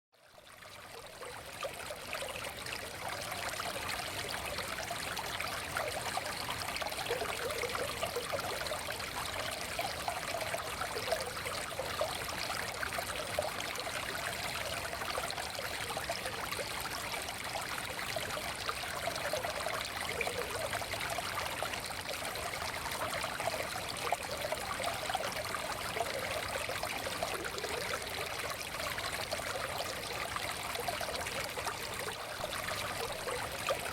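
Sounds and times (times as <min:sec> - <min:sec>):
stream flowing over stones: 0:00.2 - 0:33.9.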